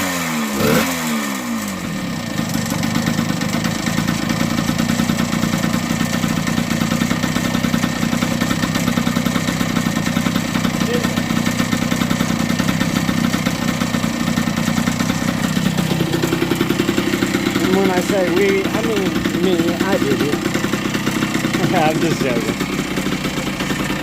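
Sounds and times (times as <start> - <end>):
two-stroke engine idling: 0.0 - 24.0.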